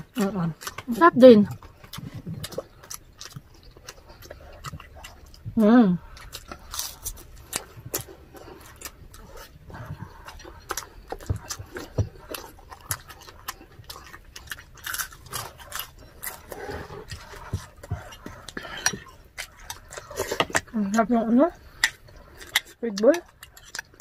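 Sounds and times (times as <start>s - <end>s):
chewing and mouth smacks: 0.0s - 24.0s.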